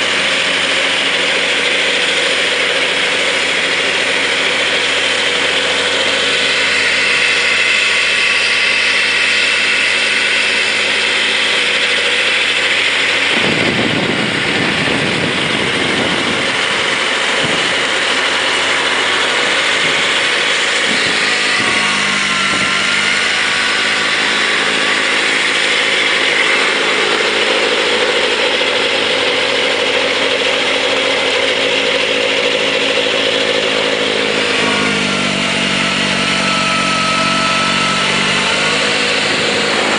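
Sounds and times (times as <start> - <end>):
snowblower rumble: 0.0 - 39.9
tractor diesel engine running: 0.0 - 39.9.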